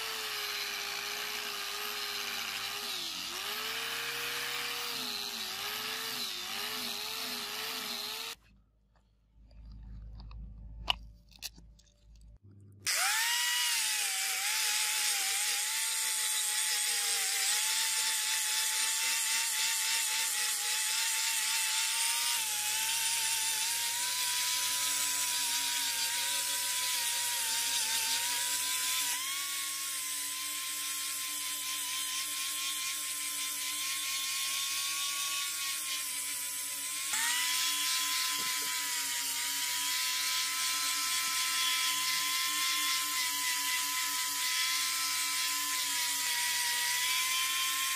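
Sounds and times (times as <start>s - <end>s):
angle grinder sanding metal: 0.0s - 8.4s, 12.9s - 47.9s.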